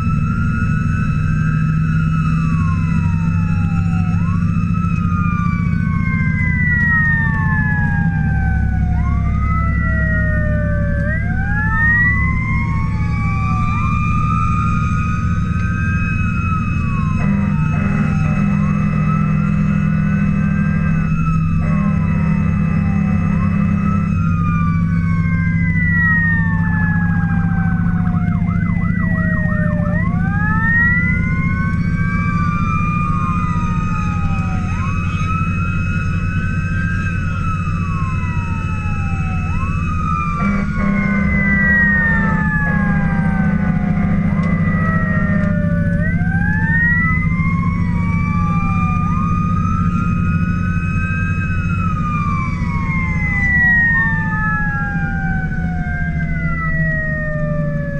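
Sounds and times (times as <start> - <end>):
fast siren yelp: 0.0 - 57.9
fire engine siren wailing: 0.0 - 57.9
truck engine droning: 0.0 - 57.9.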